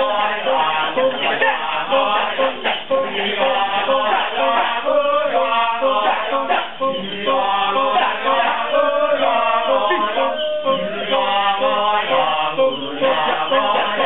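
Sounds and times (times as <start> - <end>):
men chanting in chorus: 0.0 - 14.0.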